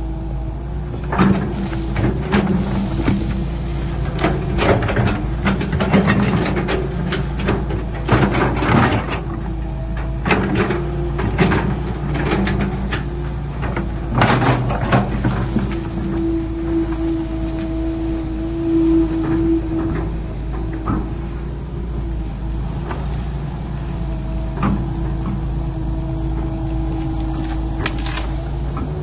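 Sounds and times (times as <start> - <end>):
excavator engine running: 0.0 - 29.0
metal clanks and knocks: 0.9 - 29.0.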